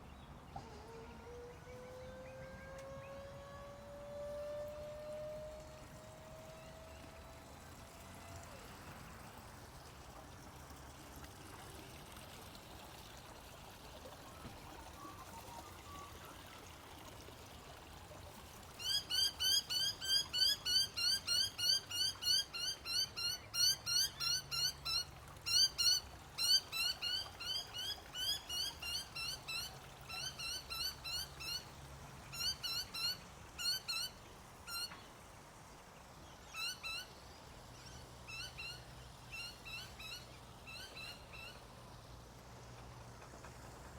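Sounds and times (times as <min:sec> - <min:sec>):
faint trickling water: 0:00.0 - 0:43.9.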